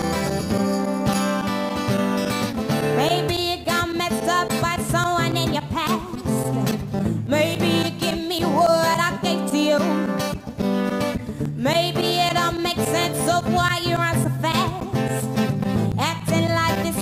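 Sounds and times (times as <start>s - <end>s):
strummed acoustic guitar: 0.0s - 17.0s
woman singing: 2.6s - 17.0s.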